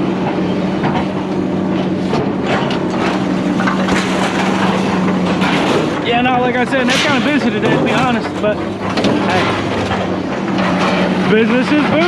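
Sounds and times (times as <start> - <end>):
engine humming: 0.0 - 12.0
scrap metal clattering and crashing: 0.8 - 12.0.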